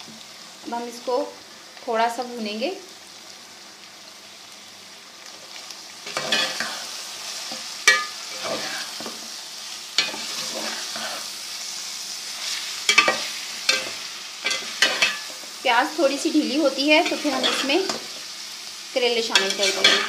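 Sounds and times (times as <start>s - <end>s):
onions and meat sizzling in a pan: 0.0s - 20.0s.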